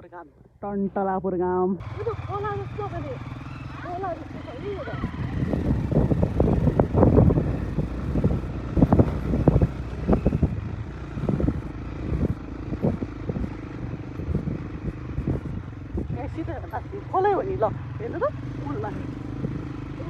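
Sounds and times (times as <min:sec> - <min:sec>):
motorcycle engine running: 0:01.8 - 0:20.0.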